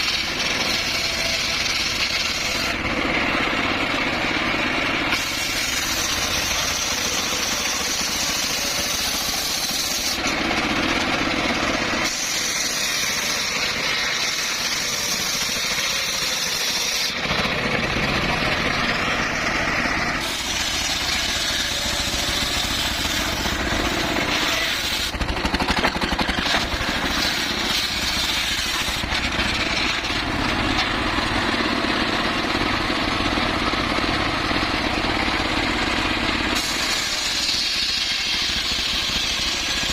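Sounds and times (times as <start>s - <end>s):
circular saw cutting timber: 0.0s - 39.9s.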